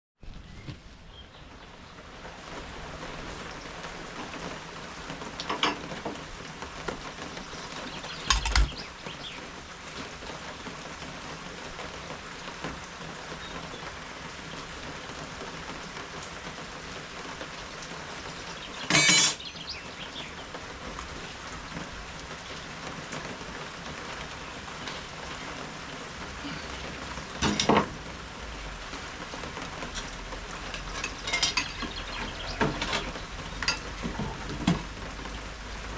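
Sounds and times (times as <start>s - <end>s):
steady rain: 0.2s - 35.9s.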